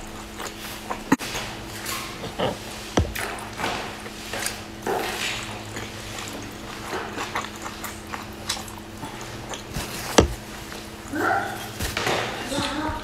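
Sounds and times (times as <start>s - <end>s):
wet chewing and mouth clicks: 0.0s - 13.0s.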